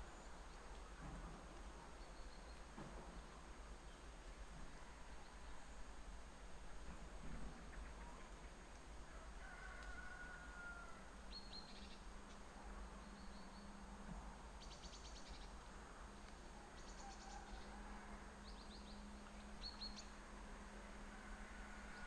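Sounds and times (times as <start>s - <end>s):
faint songbirds chirping: 0.0s - 22.0s.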